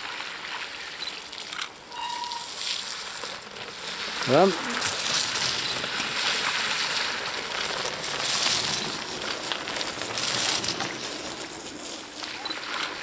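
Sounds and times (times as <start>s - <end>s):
bicycle tyres rolling through mud: 0.0s - 13.0s.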